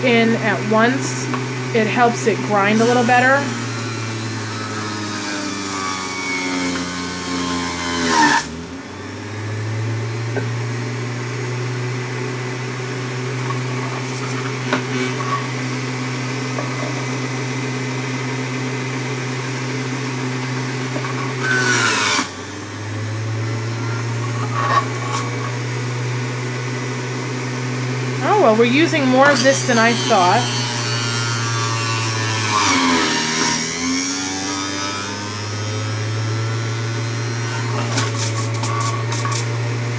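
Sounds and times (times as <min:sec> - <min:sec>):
fruit grinding against cutter disc: 0:00.0 - 0:08.7, 0:12.0 - 0:39.9
juicer motor humming: 0:00.0 - 0:39.9.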